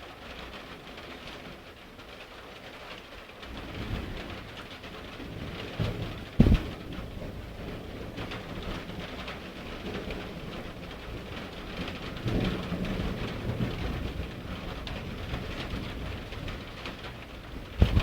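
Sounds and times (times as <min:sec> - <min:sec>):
steady rain: 0:00.0 - 0:18.0
low rumble of thunder: 0:03.5 - 0:18.0.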